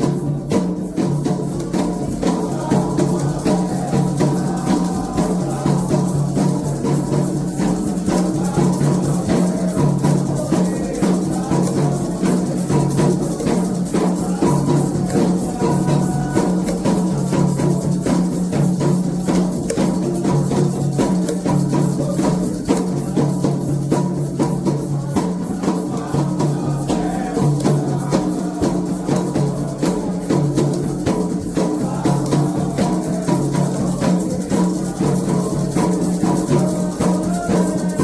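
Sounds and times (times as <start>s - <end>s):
hand drums playing fast beat: 0.0s - 38.0s
rattling percussion: 0.0s - 38.0s.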